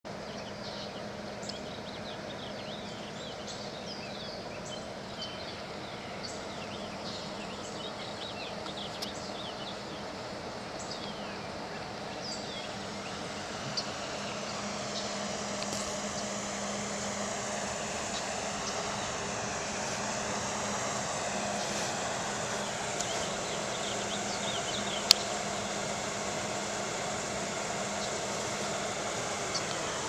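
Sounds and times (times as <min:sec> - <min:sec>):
birds chirping: 0:00.1 - 0:30.0
low hum: 0:00.1 - 0:30.0.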